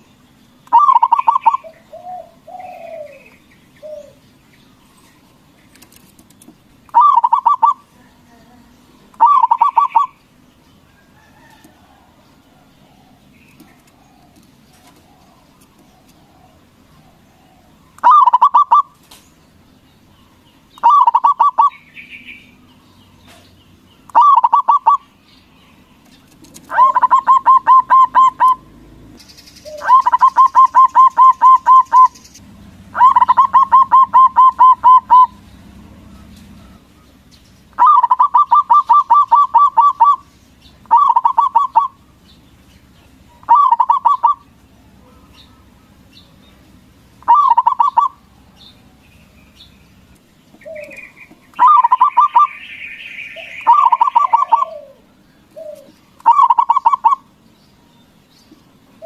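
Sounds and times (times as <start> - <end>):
dove cooing song: 0.0 - 19.2, 20.2 - 23.5, 24.1 - 57.5.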